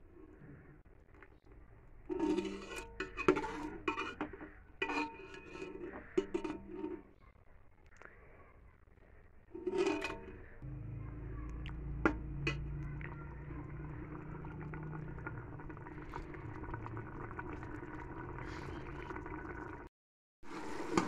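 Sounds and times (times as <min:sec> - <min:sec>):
curry simmering and bubbling: 0:00.0 - 0:21.0.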